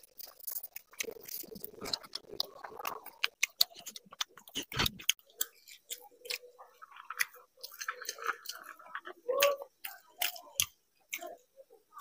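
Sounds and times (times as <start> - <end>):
close-up chewing: 0.0 - 11.4.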